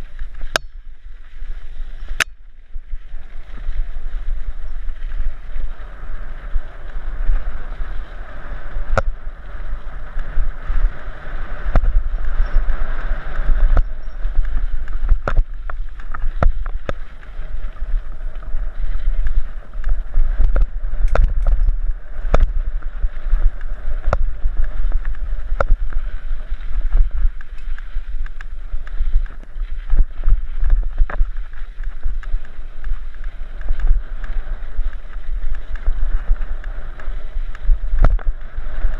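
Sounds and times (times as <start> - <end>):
bike clicks and rattles: 0.0 - 38.9
bike rolling over gravel: 0.0 - 38.9
wind rumble on microphone: 0.0 - 38.9.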